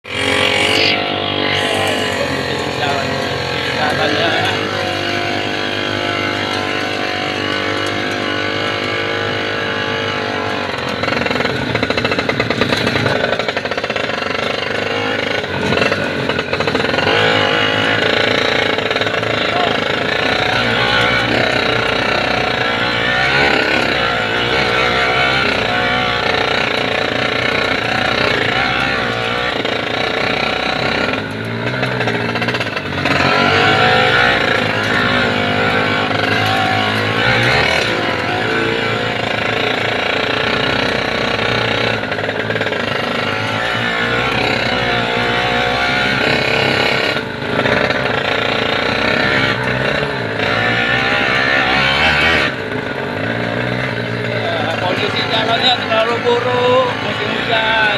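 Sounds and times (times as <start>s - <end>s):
motorcycle engine running hard: 0.0s - 57.9s.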